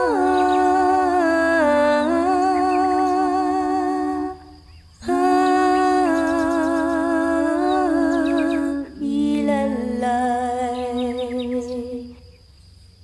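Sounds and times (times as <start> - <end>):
women singing in harmony: 0.0 - 12.4.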